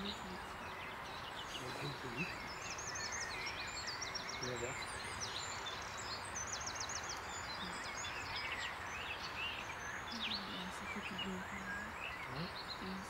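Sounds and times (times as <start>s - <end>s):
songbirds chirping: 0.0s - 13.0s
steady background hiss: 0.0s - 13.0s.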